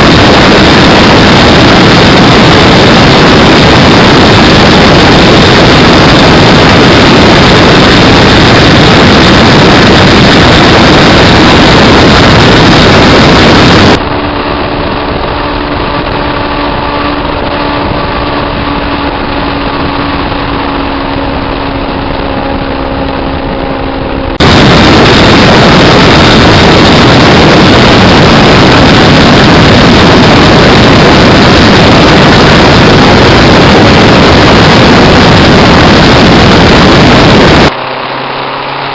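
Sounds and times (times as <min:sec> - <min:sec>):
loud distorted motorcycle engine: 0:00.0 - 0:38.9.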